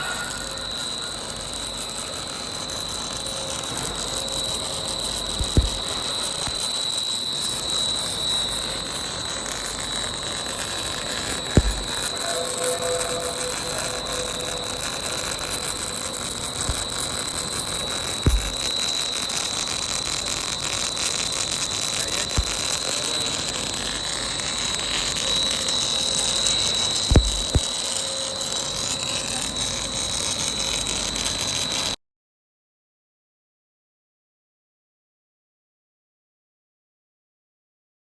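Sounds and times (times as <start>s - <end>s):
machine running with high whine: 0.0s - 32.0s.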